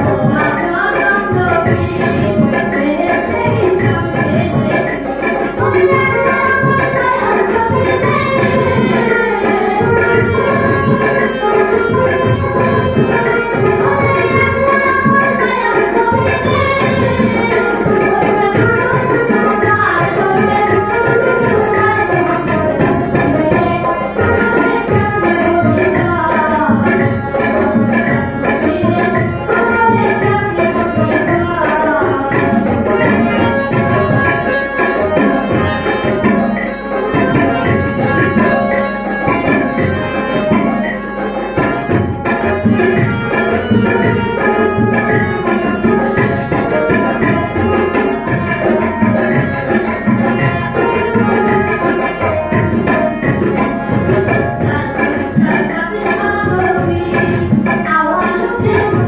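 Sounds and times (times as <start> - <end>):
folk melody on harmonium and keyboard: 0.0 - 59.0
tabla drumming: 0.0 - 59.0.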